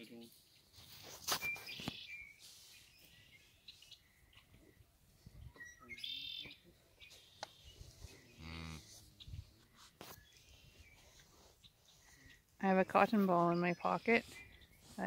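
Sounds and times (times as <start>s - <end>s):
songbirds chirping and singing: 0.1s - 15.0s.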